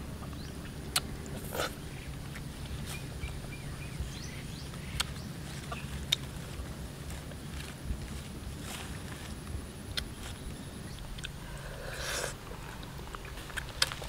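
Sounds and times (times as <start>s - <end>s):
leaves rustling: 0.0s - 14.0s
low outdoor rumble: 0.0s - 14.0s.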